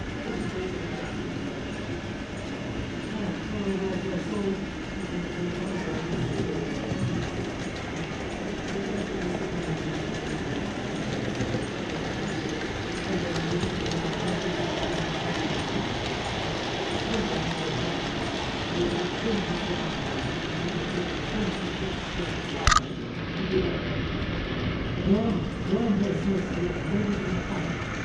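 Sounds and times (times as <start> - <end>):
model trains running: 0.0 - 28.0.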